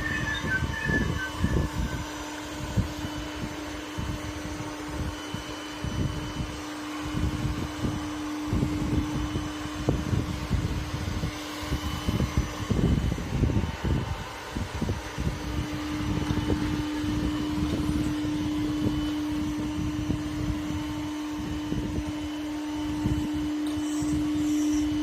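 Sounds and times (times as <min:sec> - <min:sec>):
robot vacuum motor hum: 0:00.0 - 0:25.0.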